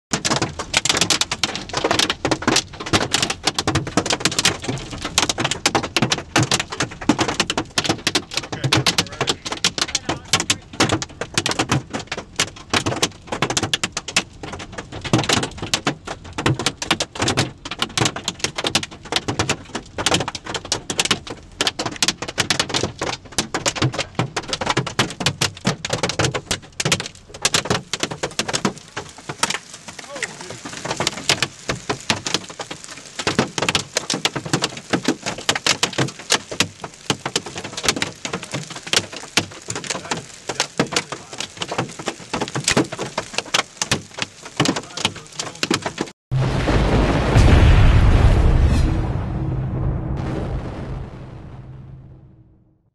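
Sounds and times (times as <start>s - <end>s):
hail pelting a car roof: 0.1s - 47.8s.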